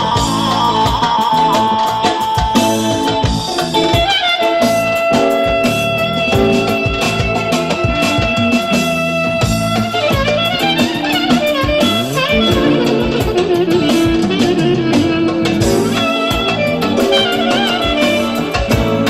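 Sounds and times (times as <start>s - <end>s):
band accompaniment with steady beat: 0.0s - 19.0s
clarinet playing folk-dance melody: 0.0s - 19.0s.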